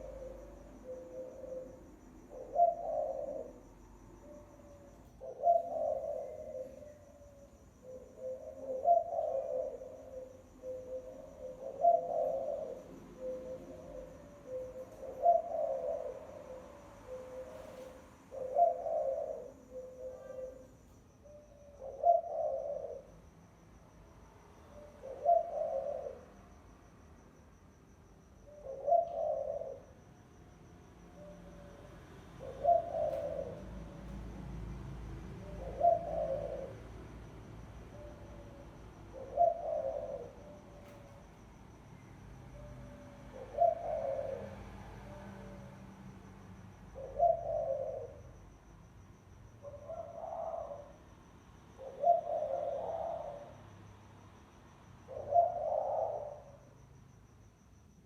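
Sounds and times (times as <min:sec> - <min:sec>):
dove cooing: 0:00.0 - 0:23.2, 0:24.6 - 0:26.5, 0:28.4 - 0:30.1, 0:31.0 - 0:45.9, 0:46.6 - 0:48.5, 0:49.6 - 0:51.1, 0:51.7 - 0:53.7, 0:55.0 - 0:56.7.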